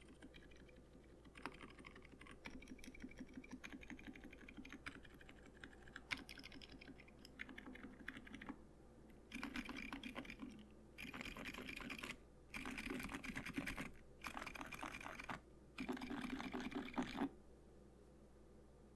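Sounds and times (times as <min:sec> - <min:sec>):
muted mechanical keyboard typing: 0:00.0 - 0:08.6, 0:09.3 - 0:17.3.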